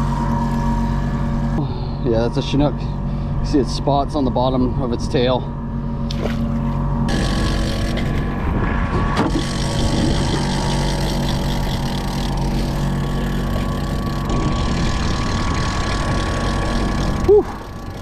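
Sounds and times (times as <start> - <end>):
boat engine running steadily: 0.0 - 18.0
thin steady whine: 0.0 - 18.0.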